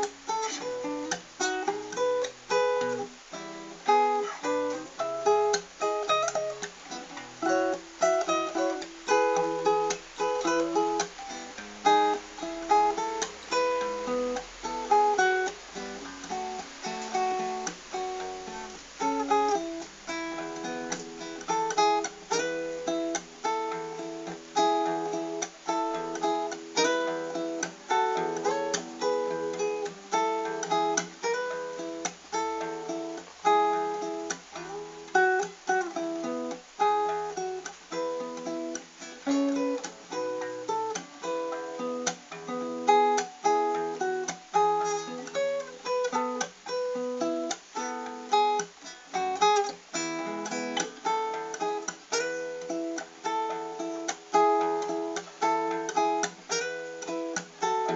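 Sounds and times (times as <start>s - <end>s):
acoustic guitar melody: 0.0s - 57.9s.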